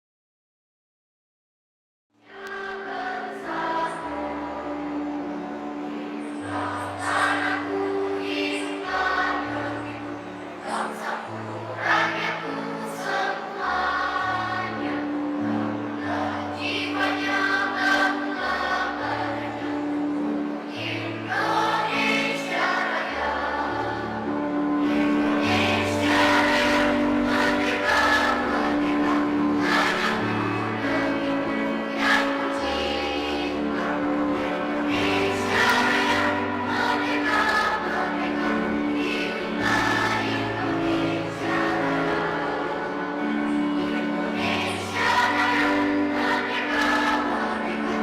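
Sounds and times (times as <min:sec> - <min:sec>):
children's choir singing: 0:02.2 - 0:48.0
instrumental accompaniment: 0:02.3 - 0:48.0.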